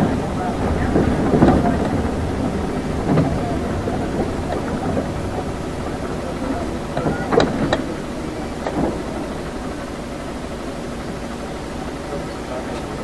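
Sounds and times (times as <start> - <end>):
bus engine and road rumble: 0.0 - 13.0
small rattles and knocks: 0.0 - 13.0.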